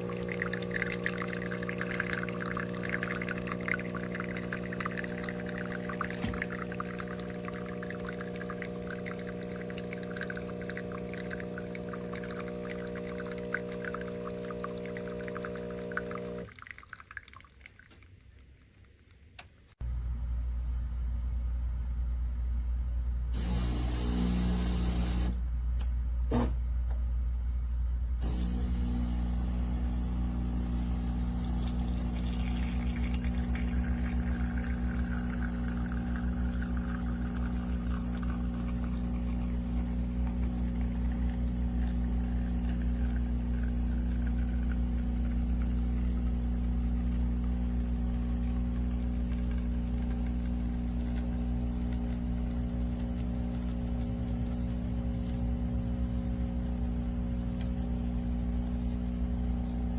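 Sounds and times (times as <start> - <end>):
espresso machine pump humming: 0.0 - 16.5, 23.4 - 25.4, 28.2 - 59.9
coffee pouring with spatter: 0.0 - 18.7, 28.2 - 59.9.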